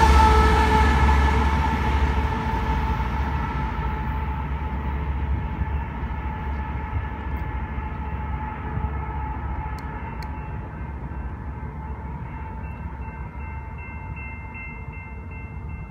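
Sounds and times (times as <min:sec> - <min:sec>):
freight train rumble: 0:00.0 - 0:15.9.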